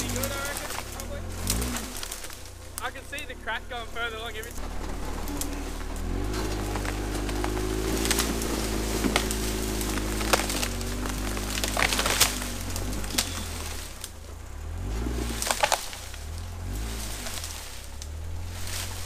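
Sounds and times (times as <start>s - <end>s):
timber cracking and snapping: 0.0s - 3.3s, 4.6s - 19.0s
engine idling: 0.0s - 19.0s.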